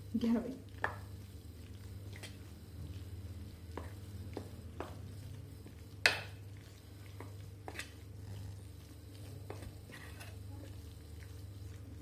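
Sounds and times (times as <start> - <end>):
steady low hum: 0.0 - 12.0
hand scraping batter in bowl: 0.6 - 12.0.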